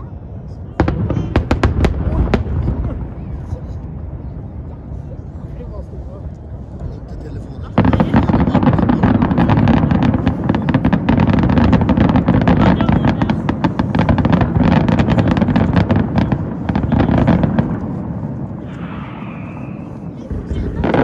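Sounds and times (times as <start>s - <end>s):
continuous low rumble: 0.0s - 21.0s
fireworks bangs and crackles: 0.7s - 21.0s.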